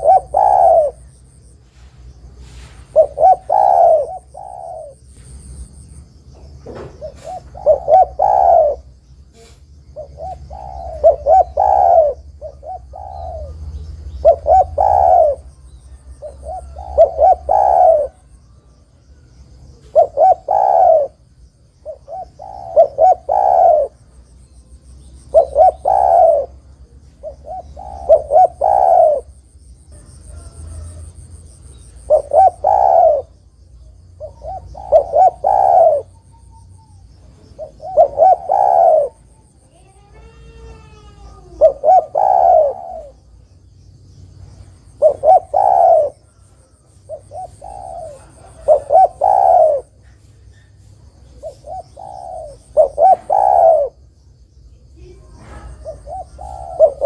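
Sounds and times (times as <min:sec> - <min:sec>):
dove cooing: 0:00.0 - 0:01.4, 0:02.3 - 0:05.6, 0:06.4 - 0:18.8, 0:19.6 - 0:24.1, 0:25.1 - 0:43.4, 0:44.8 - 0:54.0, 0:55.0 - 0:57.0.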